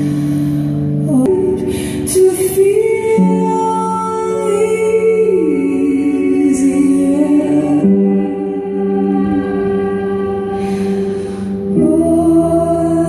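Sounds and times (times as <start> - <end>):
slow sung melody over chords: 0.0 - 13.0.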